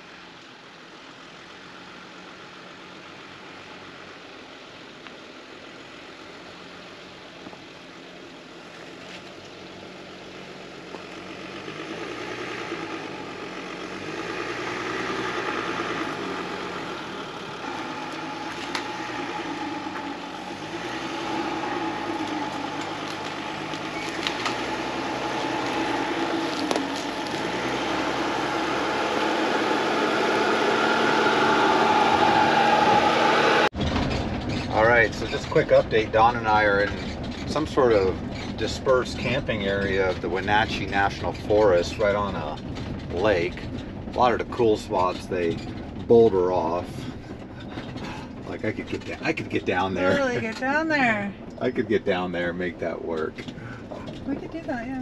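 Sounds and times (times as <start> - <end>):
gravel clicking under tyres: 0.0 - 55.0
van engine approaching: 0.0 - 55.0.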